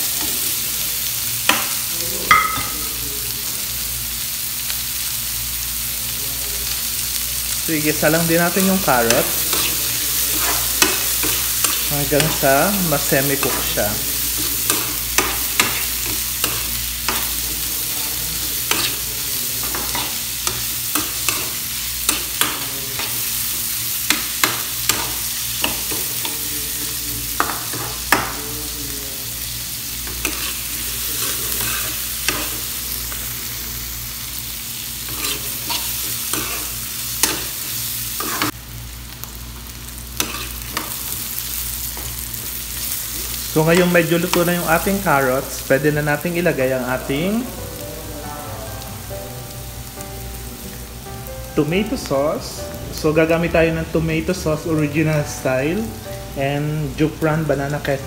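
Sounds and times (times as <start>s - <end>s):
vegetables sizzling in hot oil: 0.0s - 58.0s.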